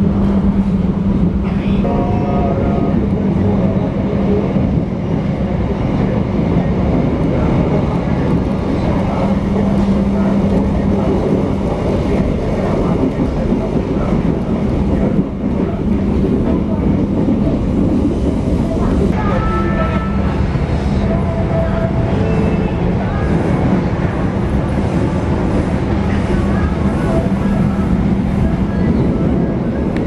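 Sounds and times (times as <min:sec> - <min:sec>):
train rolling rumble: 0:00.0 - 0:30.0.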